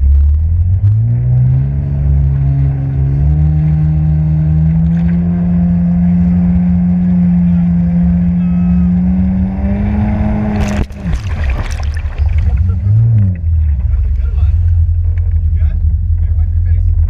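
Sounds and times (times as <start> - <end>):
jet ski engine revving: 0.0 - 17.0.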